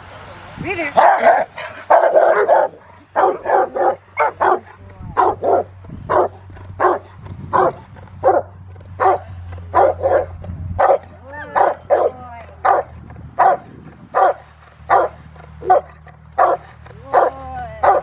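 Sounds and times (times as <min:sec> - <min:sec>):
dog barking: 0:01.0 - 0:07.0, 0:07.6 - 0:13.6, 0:14.2 - 0:18.0.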